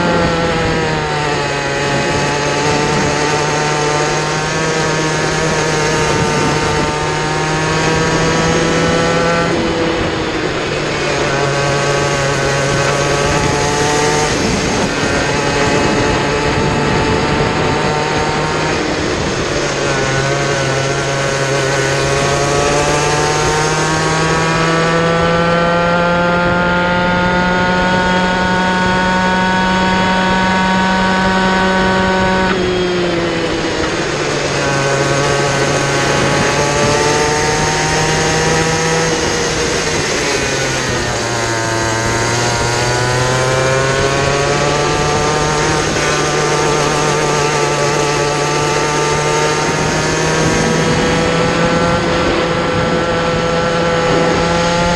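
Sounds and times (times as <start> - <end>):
kart engine racing: 0.0 - 54.9.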